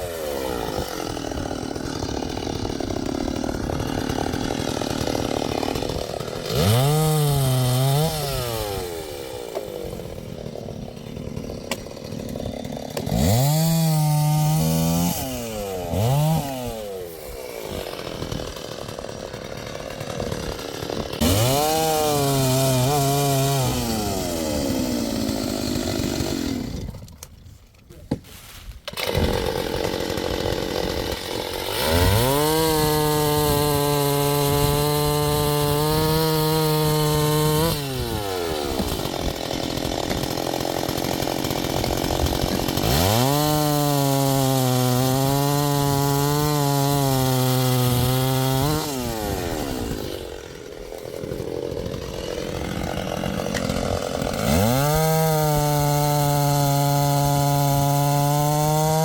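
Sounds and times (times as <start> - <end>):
chainsaw revving while cutting: 0.0 - 27.1, 28.9 - 59.0.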